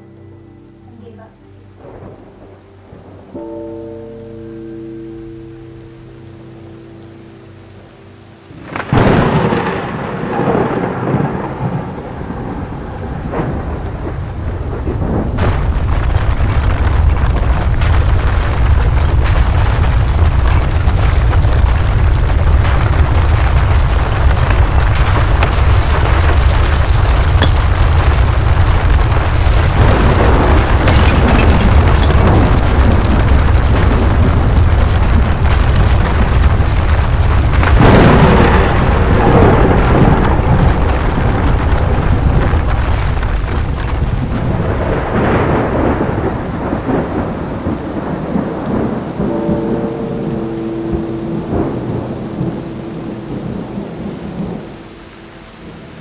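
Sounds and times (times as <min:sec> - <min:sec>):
heavy rain: 0:00.0 - 0:56.0
thunder rumbling: 0:01.6 - 0:56.0
thunder crash: 0:08.6 - 0:55.0.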